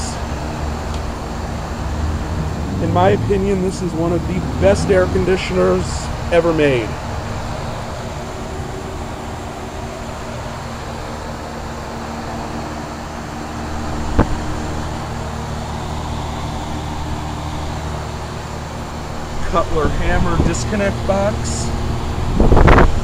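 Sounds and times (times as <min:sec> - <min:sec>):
heat pump fan humming: 0:00.0 - 0:23.0.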